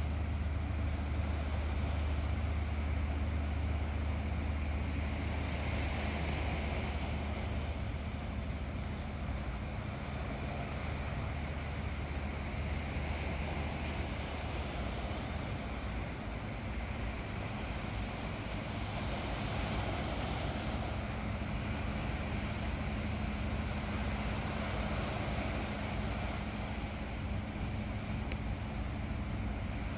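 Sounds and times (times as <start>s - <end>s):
low hum: 0.0s - 29.9s
outdoor ambient noise: 0.0s - 29.9s.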